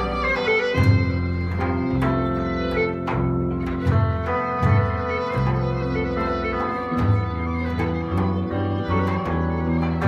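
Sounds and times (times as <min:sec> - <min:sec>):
plucked guitar: 0:00.0 - 0:10.0
violin melody: 0:00.0 - 0:10.0.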